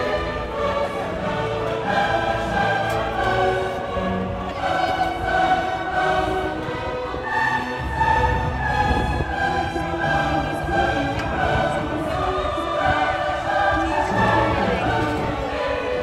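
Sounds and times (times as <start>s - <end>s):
music with long held notes: 0.0s - 16.0s.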